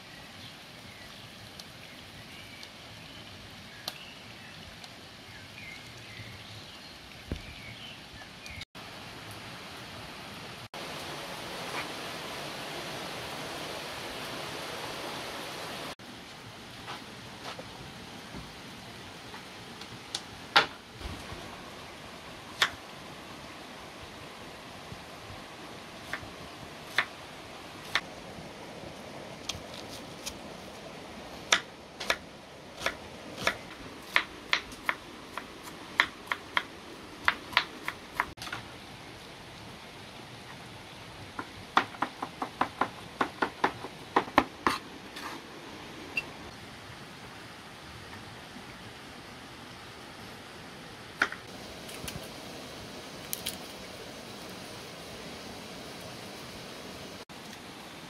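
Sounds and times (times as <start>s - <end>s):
faint steady hiss: 0.0s - 58.0s
rain patter: 0.0s - 58.0s.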